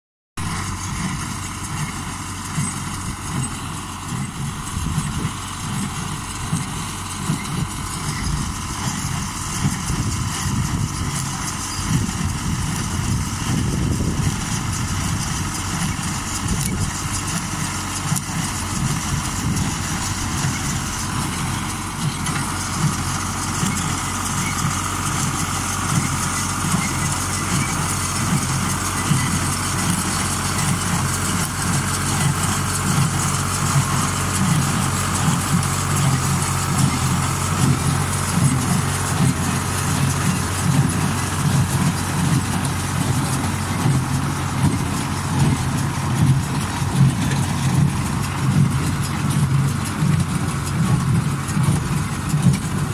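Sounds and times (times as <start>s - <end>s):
baler working: 0.4s - 52.9s
tractor engine running: 0.4s - 52.9s.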